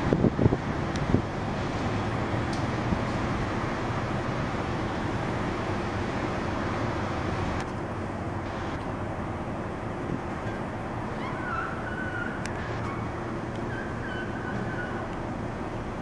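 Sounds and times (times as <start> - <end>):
vehicle traffic rumble: 0.0 - 16.0.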